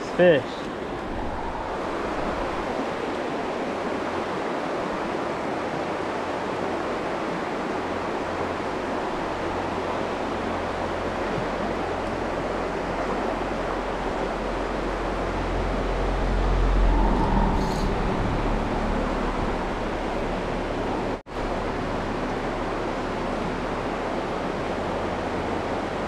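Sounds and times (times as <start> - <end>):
creek water rushing: 0.0 - 26.0
wind rumble on microphone: 0.6 - 26.0.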